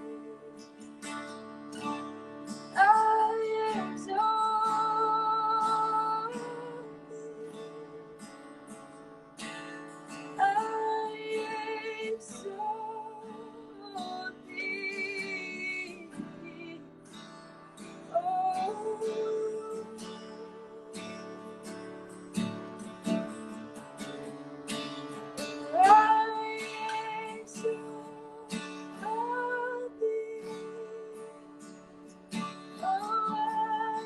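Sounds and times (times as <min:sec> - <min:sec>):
woman singing: 0:00.0 - 0:08.5, 0:10.1 - 0:21.8, 0:25.0 - 0:34.0
strummed acoustic guitar: 0:00.0 - 0:34.0.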